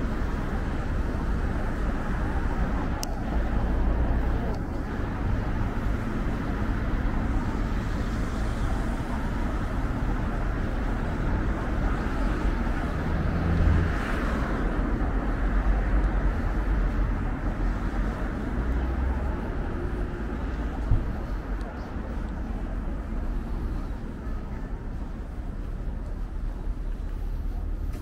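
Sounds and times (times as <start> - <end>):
traffic hum: 0.0 - 28.0.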